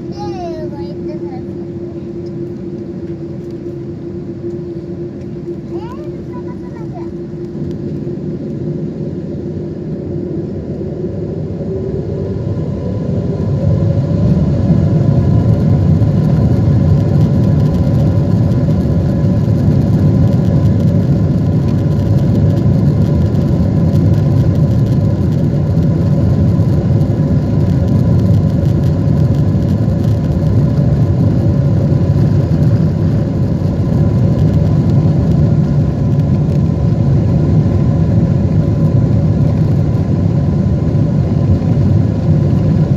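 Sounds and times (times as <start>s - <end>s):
faint engine whine: 0.0s - 42.9s
jet engines rumbling: 0.0s - 42.9s.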